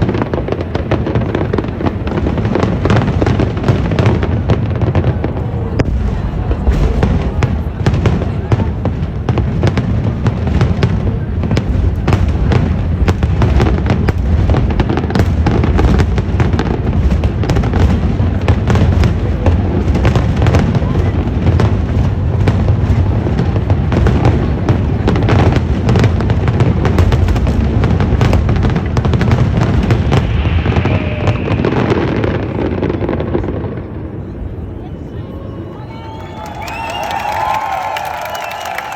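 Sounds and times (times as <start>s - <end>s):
fireworks cracking and crackling: 0.0s - 34.6s, 35.8s - 38.9s.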